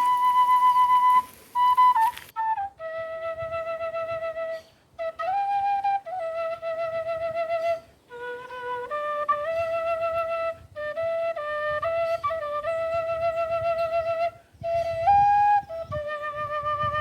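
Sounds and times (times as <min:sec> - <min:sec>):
flute solo melody: 0:00.0 - 0:17.0.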